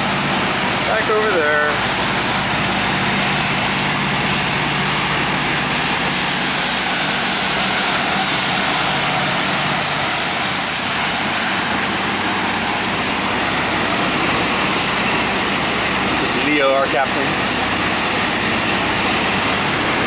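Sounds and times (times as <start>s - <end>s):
boat engine drone: 0.0s - 20.0s.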